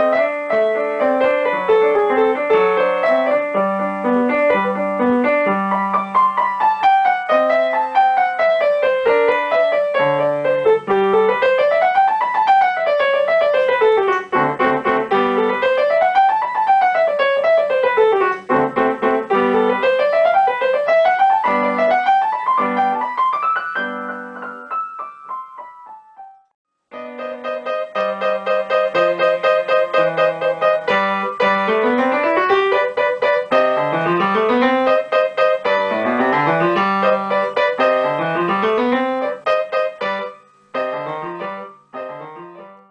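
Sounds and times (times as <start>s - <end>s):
solo piano etude: 0.0s - 42.9s.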